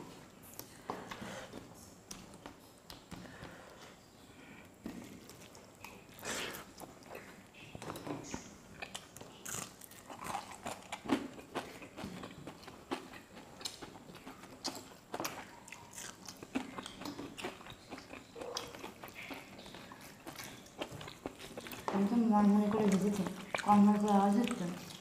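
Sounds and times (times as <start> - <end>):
crunchy chewing: 5.0 - 25.0.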